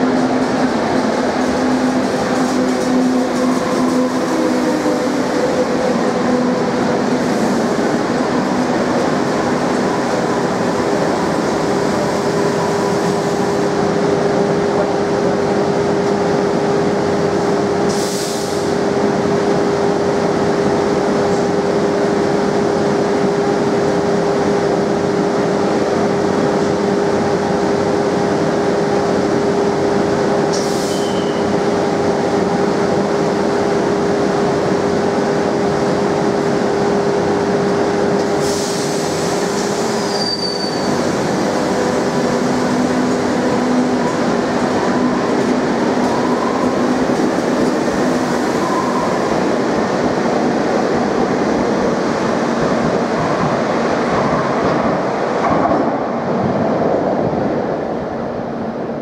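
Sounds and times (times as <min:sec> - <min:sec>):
train equipment humming: 0:00.0 - 0:40.1, 0:40.7 - 0:59.0.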